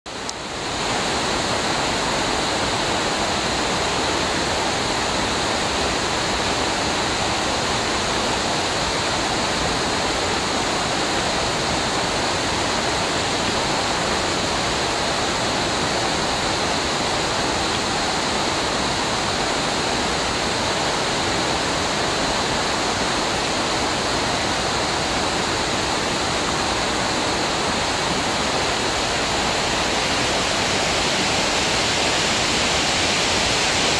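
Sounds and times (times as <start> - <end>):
river rushing over rapids: 0.1 - 33.9.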